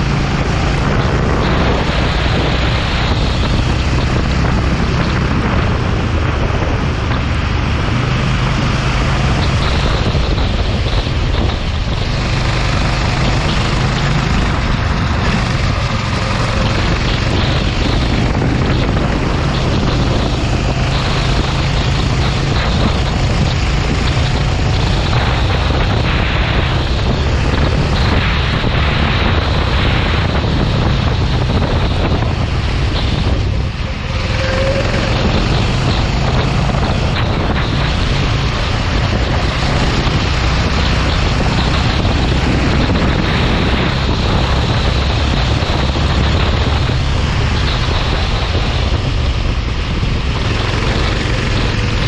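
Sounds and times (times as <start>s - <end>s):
go-kart engine running: 0.0s - 52.0s
wind buffeting microphone: 0.0s - 52.0s.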